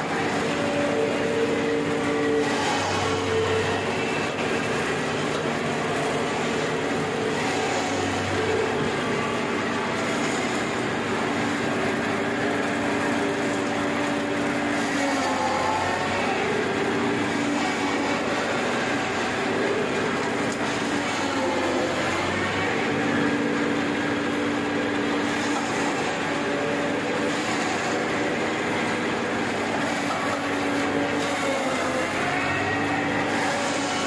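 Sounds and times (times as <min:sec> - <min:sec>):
baler machine running: 0:00.0 - 0:34.0.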